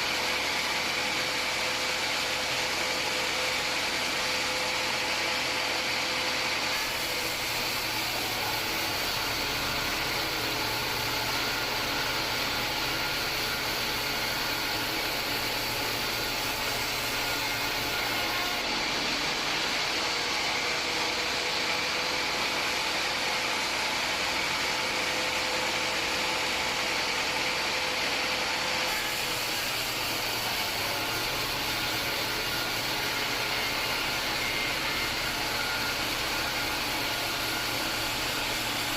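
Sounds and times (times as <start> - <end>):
band sawmill running: 0.0 - 38.9.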